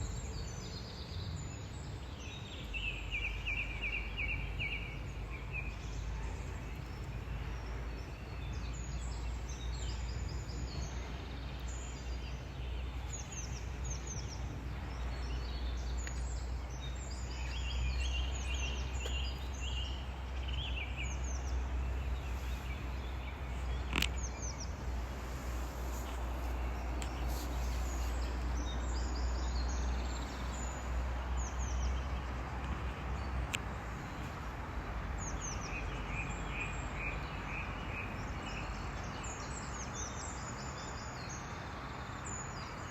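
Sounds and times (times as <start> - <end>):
birds chirping: 0.0 - 34.6.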